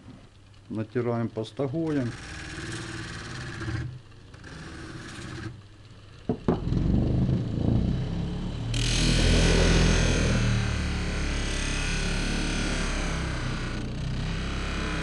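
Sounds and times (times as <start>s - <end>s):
bench grinder running: 1.8s - 15.0s.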